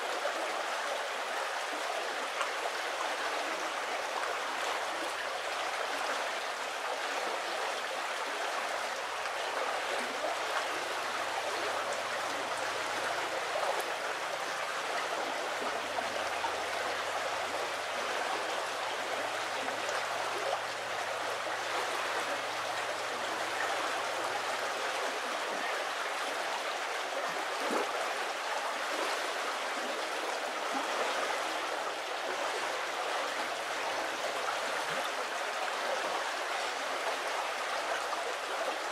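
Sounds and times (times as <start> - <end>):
shallow river running: 0.0 - 38.9.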